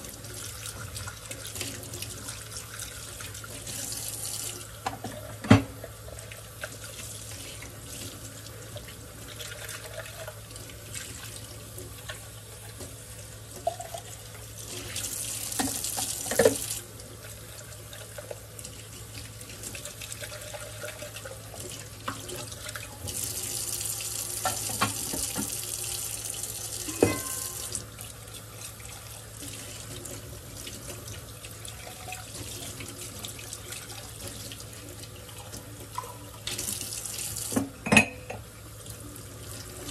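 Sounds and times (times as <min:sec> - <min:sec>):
cups rinsed under water: 0:00.0 - 0:39.9
faucet running into steel sink: 0:00.0 - 0:39.9.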